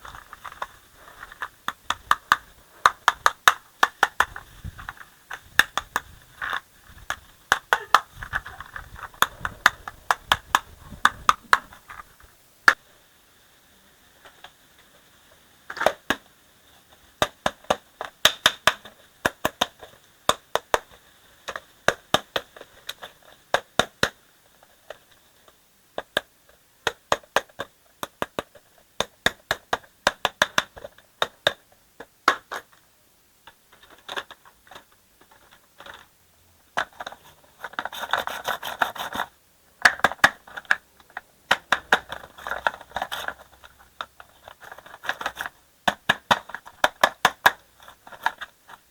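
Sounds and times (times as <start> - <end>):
toy truck parts clicking: 0.0 - 12.8, 17.2 - 32.8, 33.4 - 48.9.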